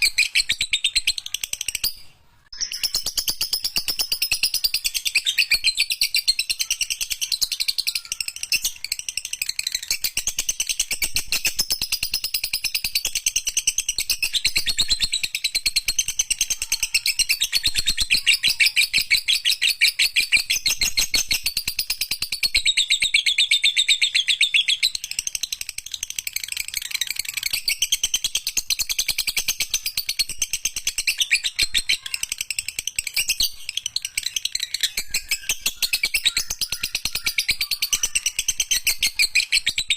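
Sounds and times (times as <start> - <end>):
lovebird chattering song: 0.0 - 39.9.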